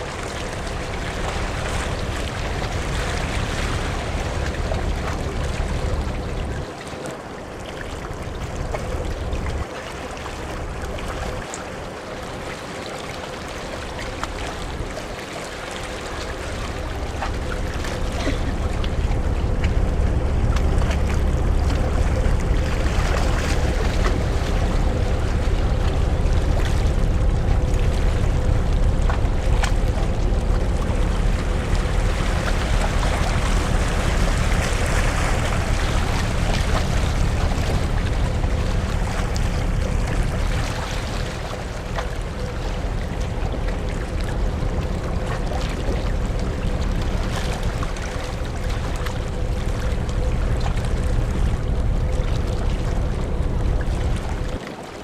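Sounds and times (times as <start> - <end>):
ferry engine rumble: 0.0 - 6.7, 13.4 - 54.6
faint steady hum: 0.0 - 6.8, 7.4 - 54.6
rushing water: 0.0 - 55.0
wind: 0.0 - 55.0.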